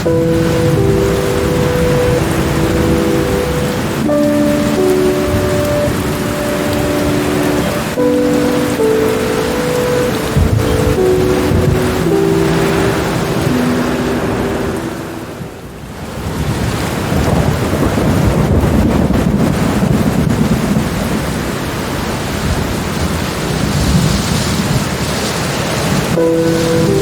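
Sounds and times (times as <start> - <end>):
heavy rain: 0.0 - 27.0
low rolling thunder: 0.0 - 27.0.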